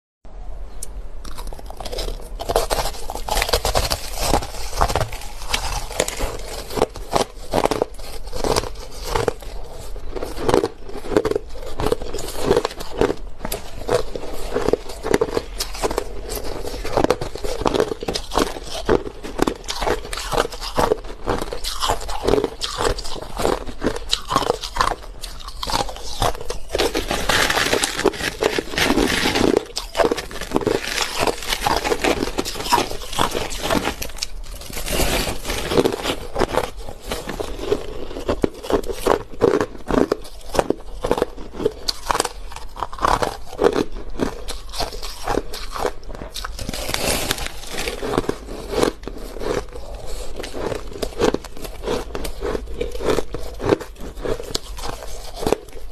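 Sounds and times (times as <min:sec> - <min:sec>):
crunching ice being chewed: 0:00.8 - 0:55.9.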